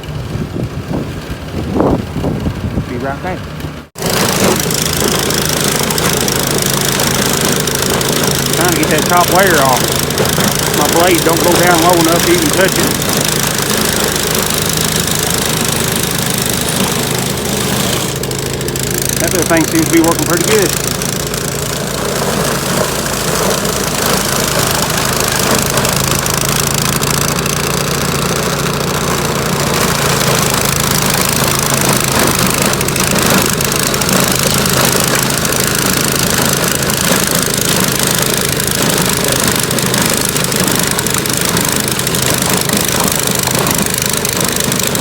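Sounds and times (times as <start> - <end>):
small gasoline engine running: 0.0 - 45.0.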